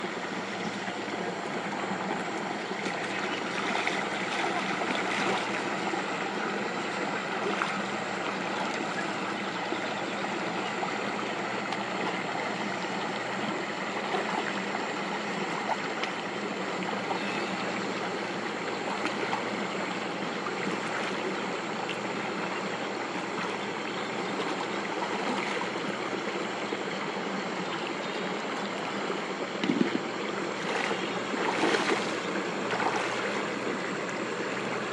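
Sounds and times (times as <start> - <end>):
water rushing and trickling: 0.0 - 34.9.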